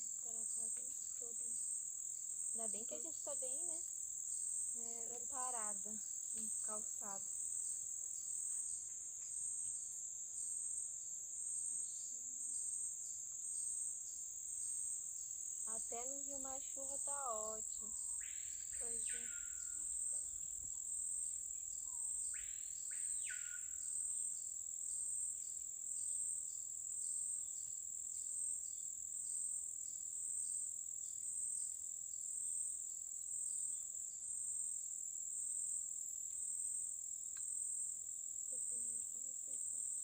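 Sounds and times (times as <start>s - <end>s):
insects pulsing buzz: 0.0s - 40.0s.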